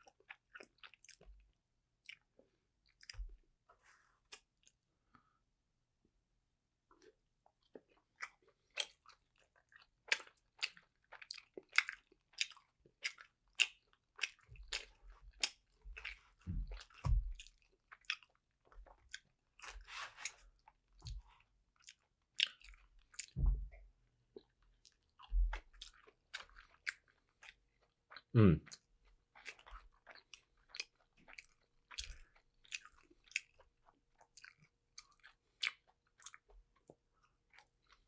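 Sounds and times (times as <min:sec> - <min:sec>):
wet chewing: 0:00.0 - 0:01.4, 0:07.0 - 0:38.0.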